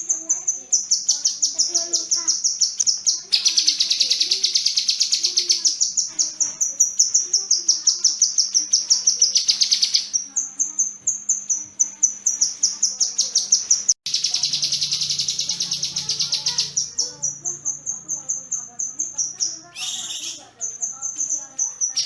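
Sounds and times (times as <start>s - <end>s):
bird singing high sharp chirps: 0.0s - 22.0s.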